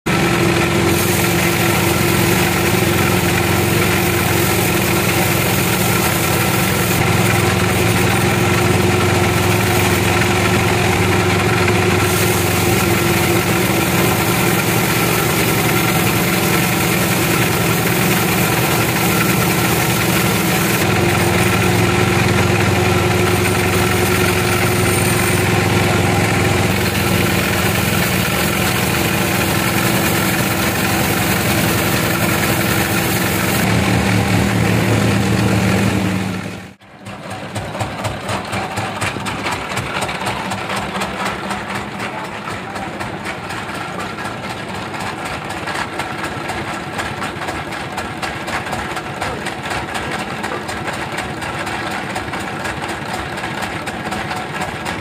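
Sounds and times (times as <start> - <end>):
band saw cutting log: 0.1 - 55.0.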